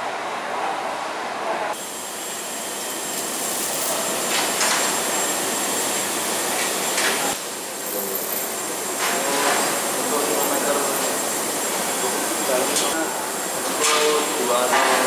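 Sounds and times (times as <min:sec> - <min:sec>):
machinery noise: 0:01.5 - 0:15.0
thin high whine: 0:01.7 - 0:14.8.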